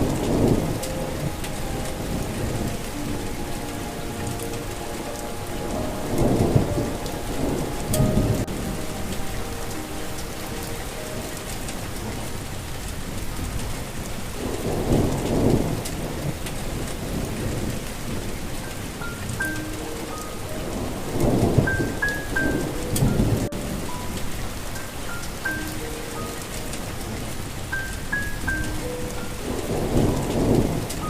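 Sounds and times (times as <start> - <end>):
soft sustained melody notes: 0.0 - 31.0
steady rain: 0.0 - 31.0
thunder rumbling: 0.0 - 31.0.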